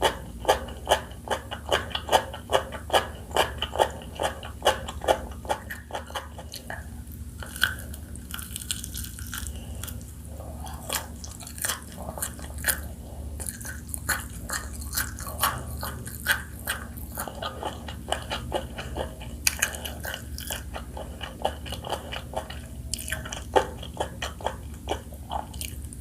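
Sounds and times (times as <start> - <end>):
chewing and crunching food: 0.0 - 26.0.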